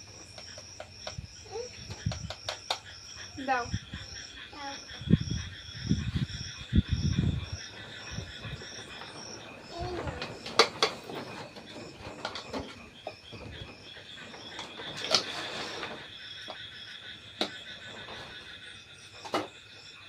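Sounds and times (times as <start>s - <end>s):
night insects chirping: 0.0s - 20.0s.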